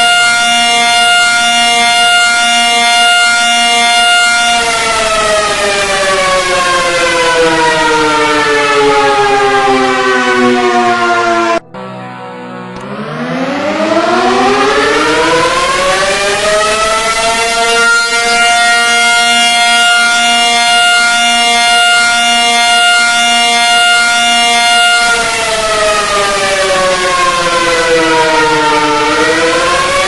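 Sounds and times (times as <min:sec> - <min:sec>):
civil defence siren wailing: 0:00.0 - 0:30.0.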